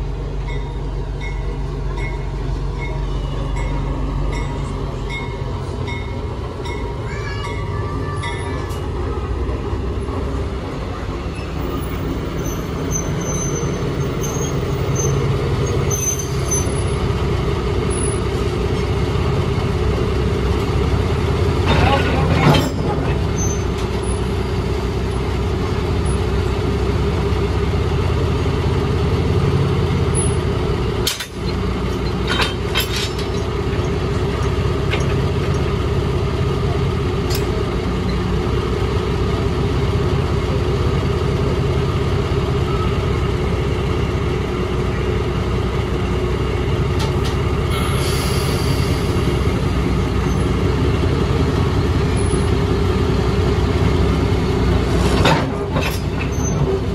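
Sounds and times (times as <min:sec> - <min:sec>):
diesel locomotive engine running: 0:00.0 - 0:56.9.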